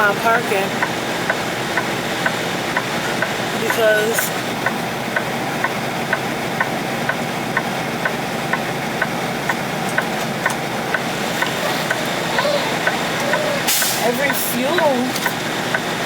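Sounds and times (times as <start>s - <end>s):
truck engine and road noise: 0.0s - 16.0s
turn signal ticking: 0.0s - 16.0s.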